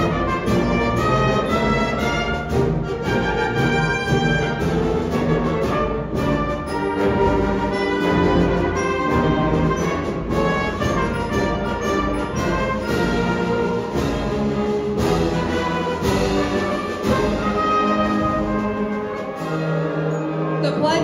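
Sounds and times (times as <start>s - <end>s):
band and orchestra playing chords: 0.0s - 21.0s
trombones and tubas: 0.0s - 21.0s.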